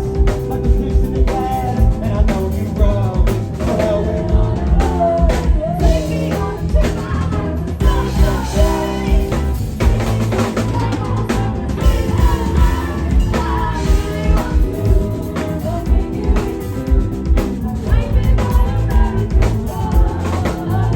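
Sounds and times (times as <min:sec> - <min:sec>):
drum kit beat: 0:00.0 - 0:20.9
live band playing: 0:00.0 - 0:20.9
person singing: 0:00.0 - 0:20.9.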